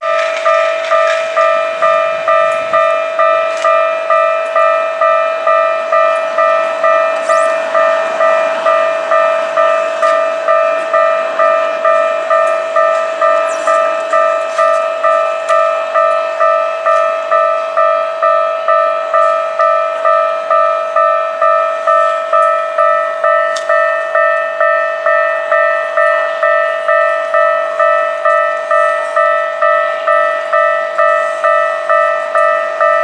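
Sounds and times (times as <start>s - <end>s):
level crossing warning bell: 0.0s - 33.0s.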